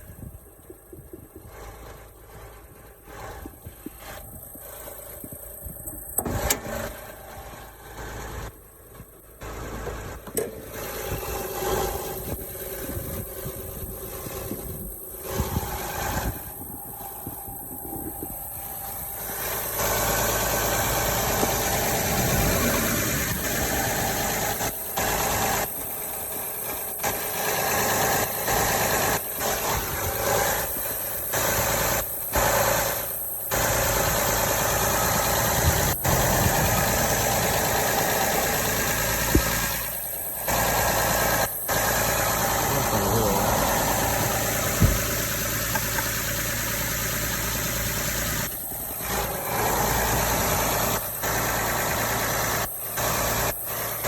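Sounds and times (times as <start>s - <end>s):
minivan engine running: 0.0s - 54.0s.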